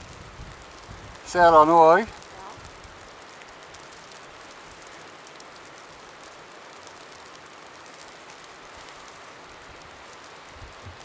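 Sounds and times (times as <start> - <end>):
falling snow patter: 0.0 - 11.0
snowstorm hiss: 0.0 - 11.0.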